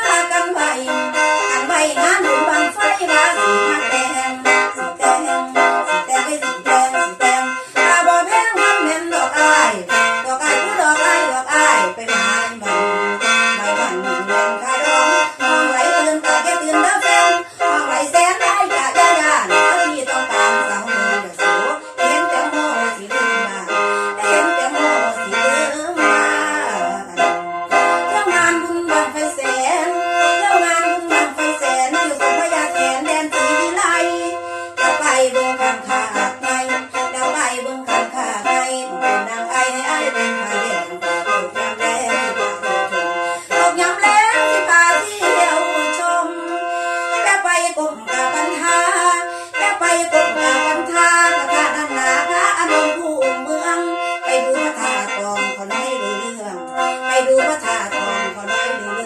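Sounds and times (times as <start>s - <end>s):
mouth organ melody over drone: 0.0s - 59.0s.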